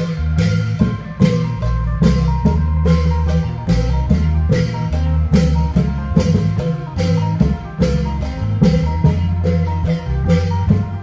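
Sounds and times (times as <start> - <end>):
amplified plucked string melody: 0.0 - 11.0
drums beating steady rhythm: 0.0 - 11.0.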